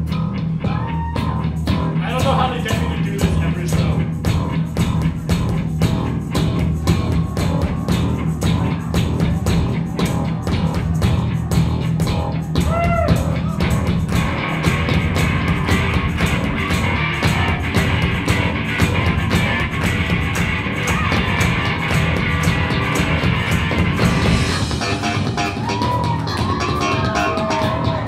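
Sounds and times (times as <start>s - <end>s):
bass guitar: 0.0s - 28.0s
drum kit steady beat: 0.0s - 28.0s
electric guitars: 0.0s - 28.0s.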